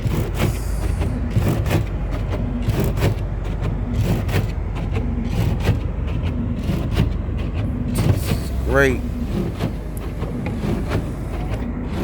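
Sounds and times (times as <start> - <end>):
car road rumble: 0.0 - 12.0
knocks and scrapes: 0.0 - 12.0.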